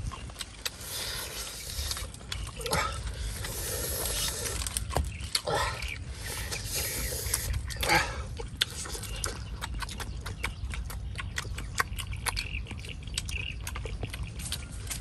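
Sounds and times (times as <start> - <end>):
chewing and lip-smacking: 0.0 - 15.0
steady low rumble: 0.0 - 15.0.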